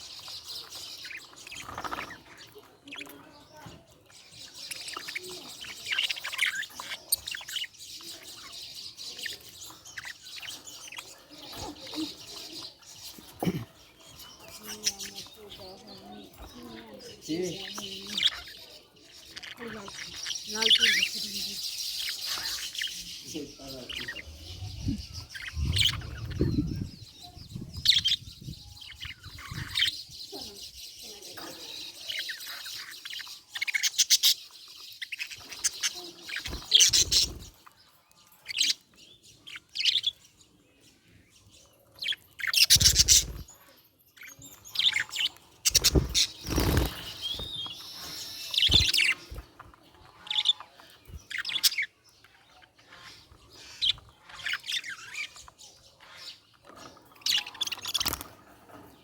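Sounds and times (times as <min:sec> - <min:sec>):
budgerigar chirping and chattering: 0:00.0 - 0:58.8.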